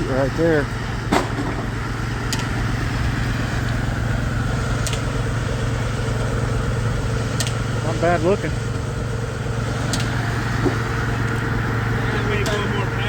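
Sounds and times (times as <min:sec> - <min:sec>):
sawmill blade spinning: 0:00.0 - 0:13.0.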